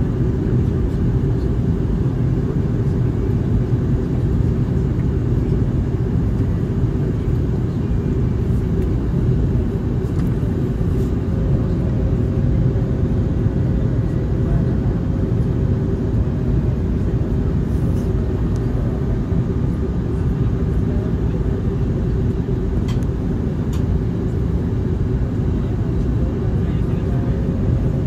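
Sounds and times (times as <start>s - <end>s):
jet engine and airflow rumble: 0.0s - 28.0s.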